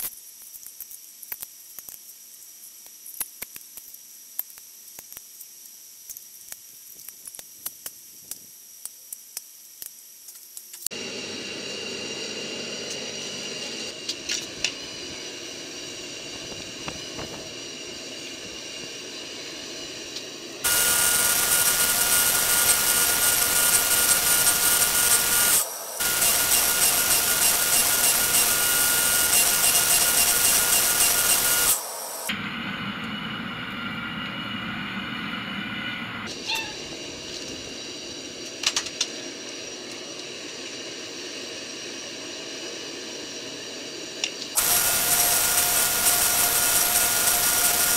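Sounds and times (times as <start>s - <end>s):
forge burner hissing: 0.0s - 47.9s.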